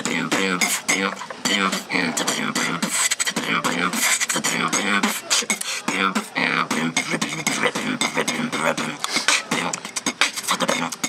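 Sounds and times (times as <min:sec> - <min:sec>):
person beatboxing: 0:00.0 - 0:11.0.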